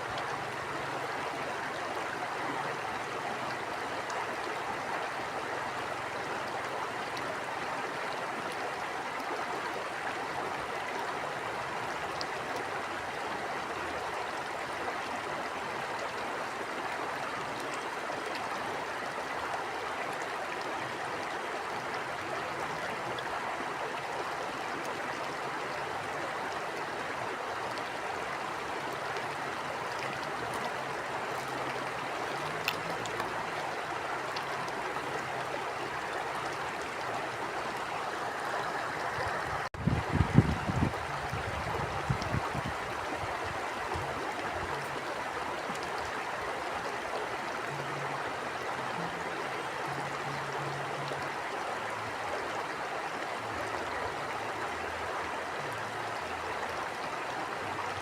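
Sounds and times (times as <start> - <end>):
stream of water flowing: 0.0 - 58.0.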